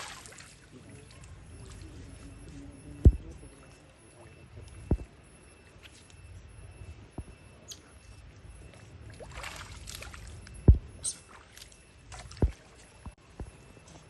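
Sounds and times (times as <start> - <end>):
water splashing and sloshing: 0.0 - 7.3, 8.0 - 13.6.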